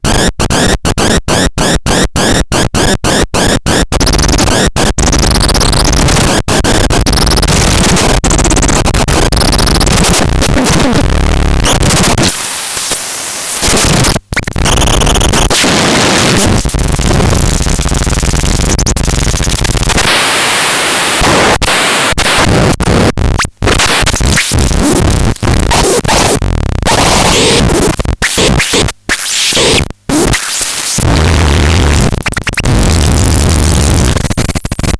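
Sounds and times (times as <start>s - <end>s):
harsh distorted electronic static: 0.0s - 34.9s.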